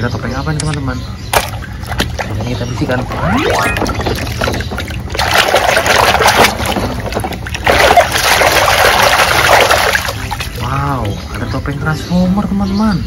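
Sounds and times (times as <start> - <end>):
water sloshing in a tub: 1.3 - 12.0.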